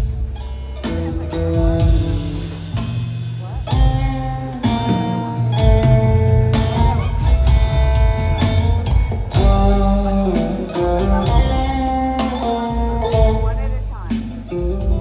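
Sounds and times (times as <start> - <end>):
bass guitar: 0.0 - 15.0
drum strikes: 0.0 - 15.0
guitar notes: 0.0 - 15.0.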